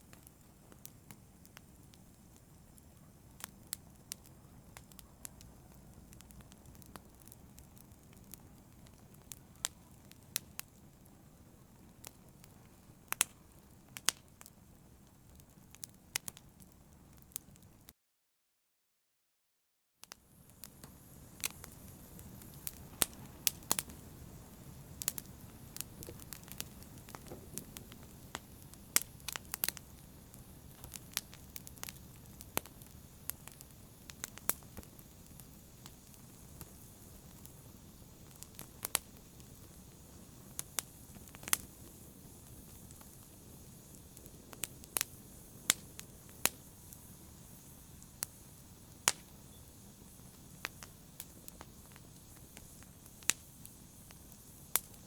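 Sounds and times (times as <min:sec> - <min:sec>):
open fire crackling: 0:00.0 - 0:17.9, 0:20.0 - 0:55.0.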